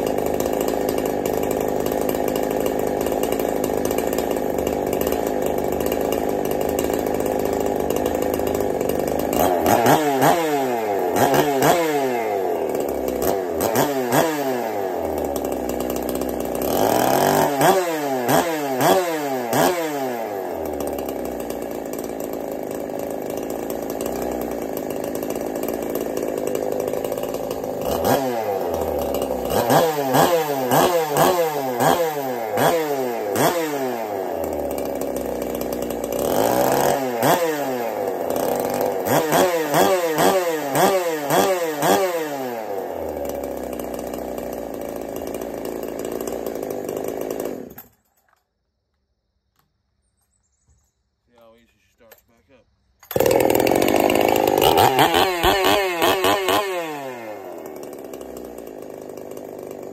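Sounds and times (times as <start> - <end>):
chainsaw throttle blips: 0.0 - 48.0, 53.0 - 59.9
chainsaw idling: 0.0 - 48.4, 51.4 - 59.9.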